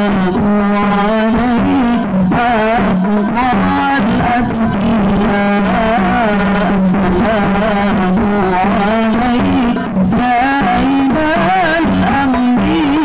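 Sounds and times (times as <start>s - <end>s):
devotional song over loudspeakers: 0.0s - 13.0s.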